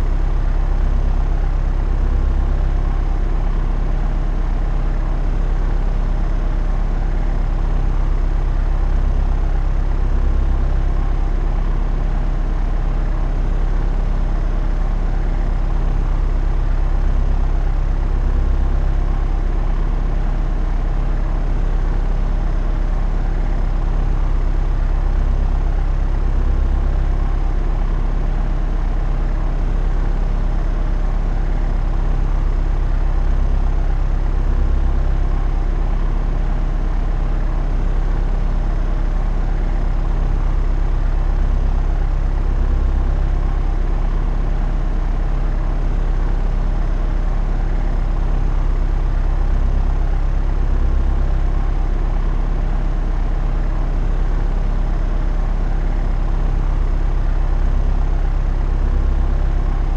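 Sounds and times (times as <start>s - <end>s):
propeller aeroplane engine drone: 0.0s - 59.9s.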